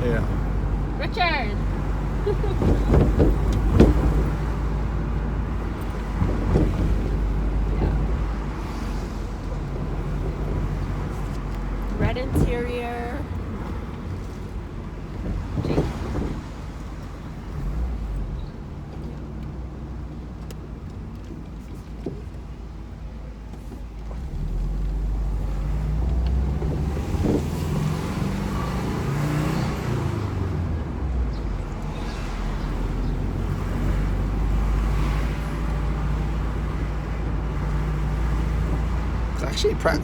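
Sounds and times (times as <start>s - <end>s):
car engine accelerating: 0.0s - 40.0s
road noise: 0.0s - 40.0s.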